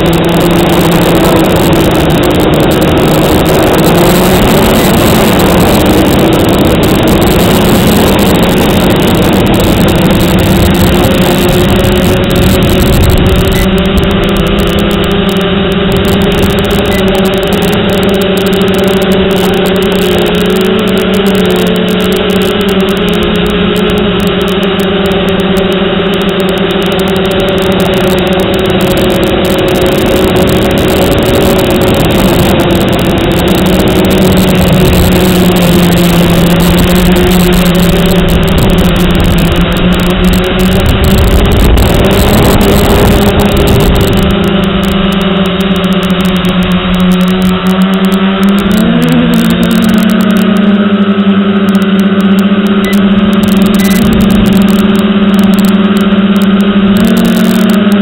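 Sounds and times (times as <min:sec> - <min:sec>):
rushing air noise: 0:00.0 - 0:24.3, 0:26.2 - 0:50.6
quadcopter motors buzzing: 0:00.0 - 0:58.0.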